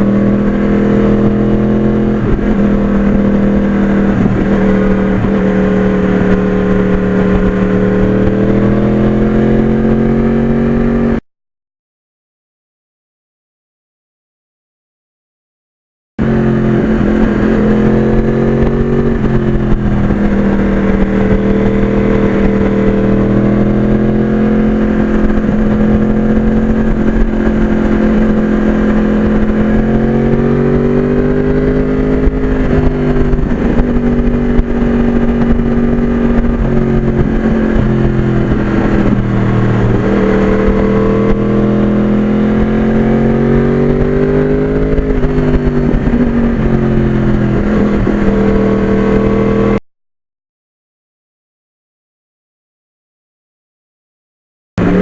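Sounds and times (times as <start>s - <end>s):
motorcycle engine running: 0.0s - 11.2s, 16.2s - 49.8s, 54.8s - 55.0s.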